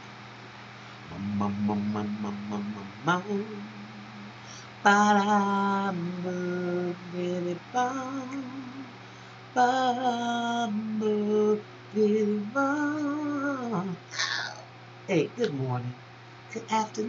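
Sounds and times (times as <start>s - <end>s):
woman singing slow melody: 1.1s - 14.3s, 16.5s - 17.0s.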